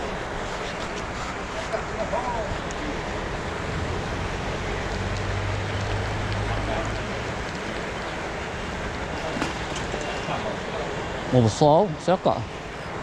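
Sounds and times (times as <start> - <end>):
aerators churning water: 0.0 - 13.0.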